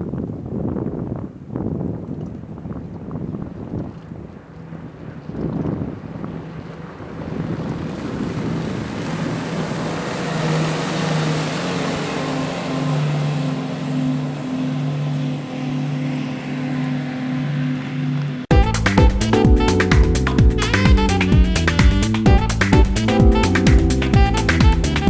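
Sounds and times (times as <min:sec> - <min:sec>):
outboard motor running: 0:00.0 - 0:25.0
wind and water rushing: 0:00.0 - 0:25.0.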